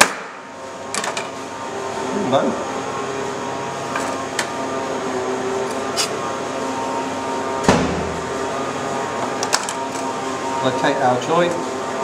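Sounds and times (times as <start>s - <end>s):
kitchen ventilation hum: 0.0s - 12.0s.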